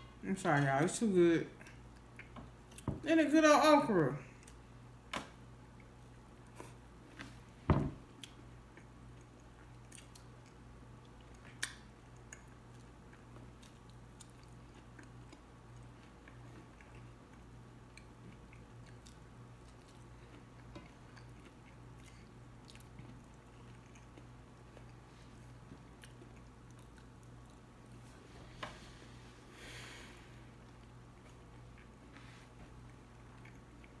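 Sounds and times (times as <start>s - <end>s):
person chewing food: 1.6s - 2.9s, 5.7s - 28.0s, 30.4s - 34.0s.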